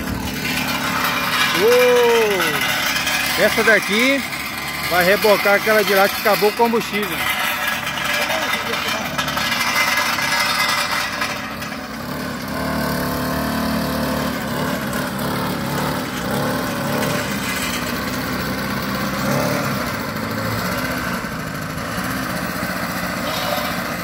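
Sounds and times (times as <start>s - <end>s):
model truck engine running: 0.0s - 24.0s.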